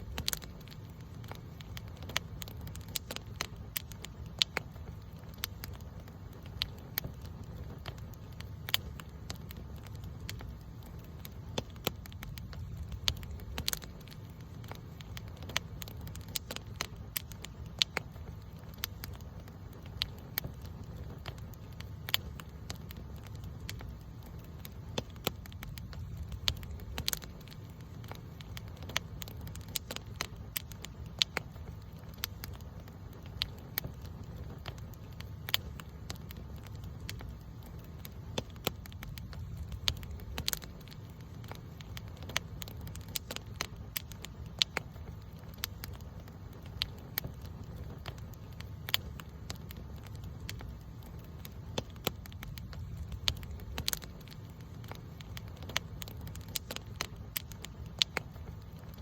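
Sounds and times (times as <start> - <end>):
campfire crackling and popping: 0.0 - 59.0
low steady rumble: 0.0 - 59.0.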